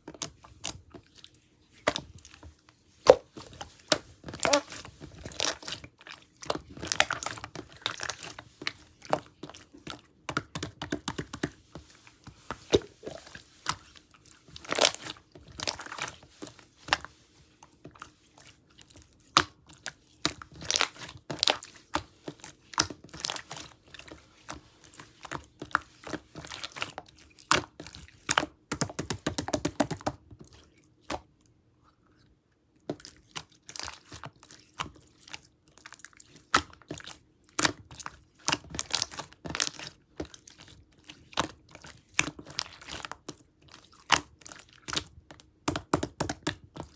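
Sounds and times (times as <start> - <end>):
slime crackling and squishing: 0.1 - 30.7, 33.0 - 46.9.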